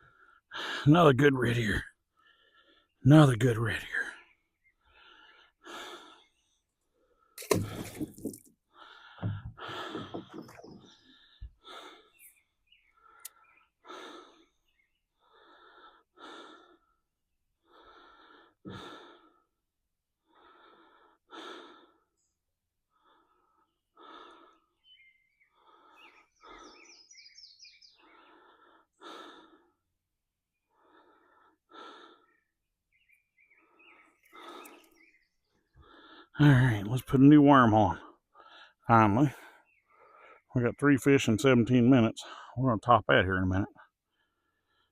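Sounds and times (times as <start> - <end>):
man breathing heavily: 0.0 - 0.9, 2.0 - 3.0, 4.8 - 36.8, 37.9 - 40.5, 43.8 - 44.9.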